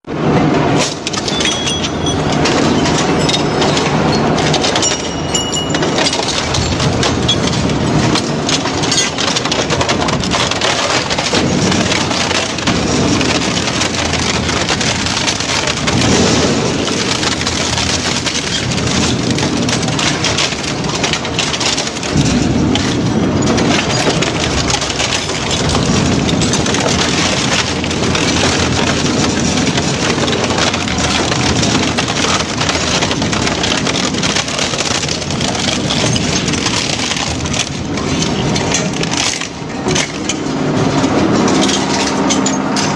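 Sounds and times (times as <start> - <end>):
metal baler crushing scrap metal: 0.1 - 42.9.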